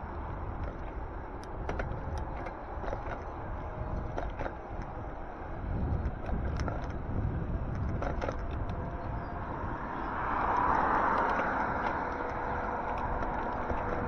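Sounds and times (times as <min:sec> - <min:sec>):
car passing: 0:00.0 - 0:14.0
road traffic rumble: 0:00.0 - 0:14.0.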